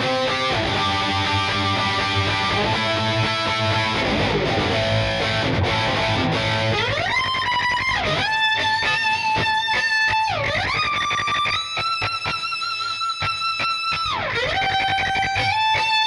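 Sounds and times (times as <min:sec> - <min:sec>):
electric guitar lead with vibrato: 0:00.0 - 0:16.0.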